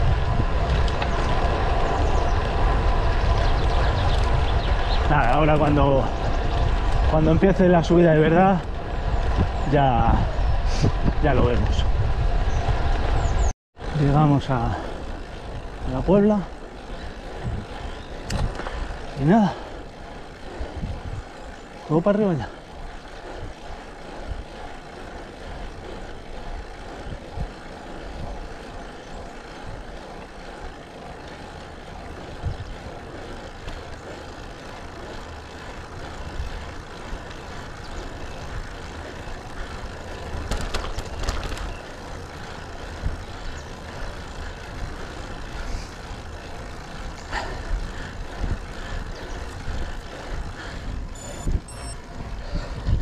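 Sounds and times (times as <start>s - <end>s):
bike road noise on asphalt: 0.0s - 53.0s
wind rush: 0.0s - 53.0s.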